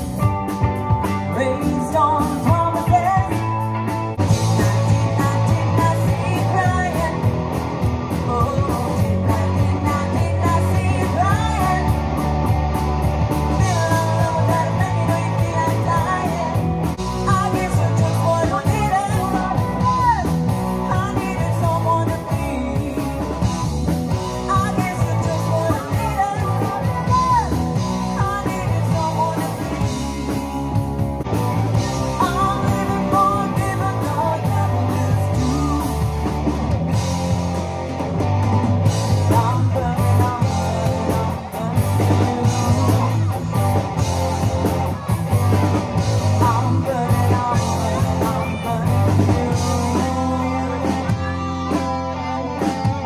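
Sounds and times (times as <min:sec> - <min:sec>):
drums: 0:00.0 - 0:53.0
electric guitars: 0:00.0 - 0:53.0
woman singing lead: 0:00.1 - 0:37.5, 0:38.2 - 0:53.0.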